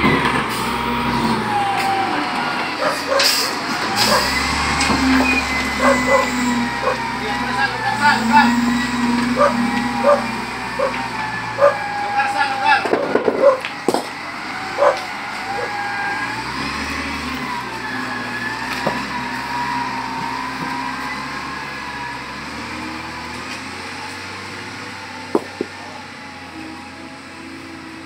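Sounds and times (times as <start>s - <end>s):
wheel loader diesel engine: 0.0s - 28.0s.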